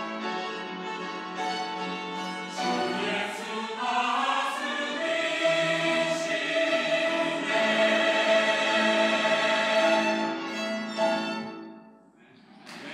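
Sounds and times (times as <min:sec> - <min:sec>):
church choir singing a hymn: 0:00.0 - 0:11.6, 0:12.4 - 0:12.9.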